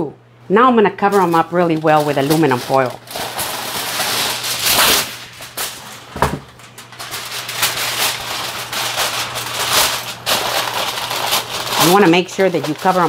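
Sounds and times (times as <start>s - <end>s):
aluminum foil rustling: 1.0s - 13.0s
foil crinkling: 1.0s - 13.0s
foil snapping: 1.1s - 13.0s.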